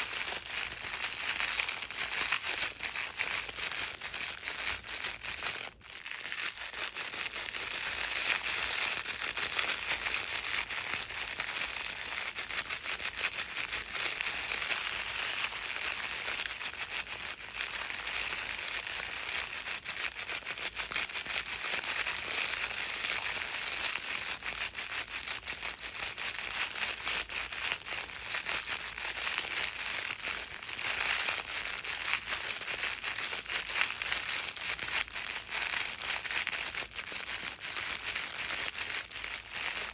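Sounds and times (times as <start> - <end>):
crinkle book rustling: 0.0 - 39.9.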